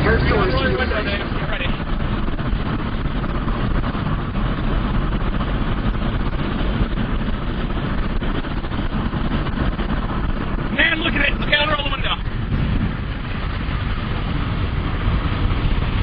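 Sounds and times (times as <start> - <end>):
vehicle cabin rumble: 0.0 - 16.0.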